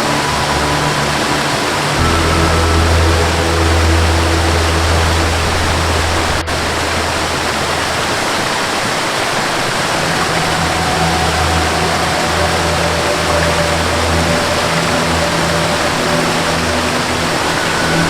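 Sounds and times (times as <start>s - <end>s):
low background melody: 0.0s - 8.8s, 9.5s - 18.0s
waterfall rushing: 0.0s - 18.0s.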